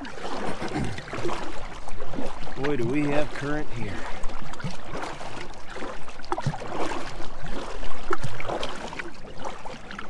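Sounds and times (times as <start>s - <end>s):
paddle splashing water: 0.0s - 10.0s
water dripping off paddle: 0.0s - 10.0s.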